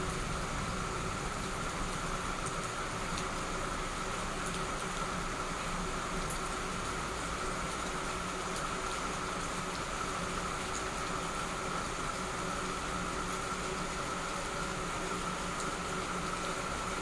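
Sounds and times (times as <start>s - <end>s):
heavy rain: 0.0s - 17.0s
ticks of raindrops: 0.0s - 17.0s.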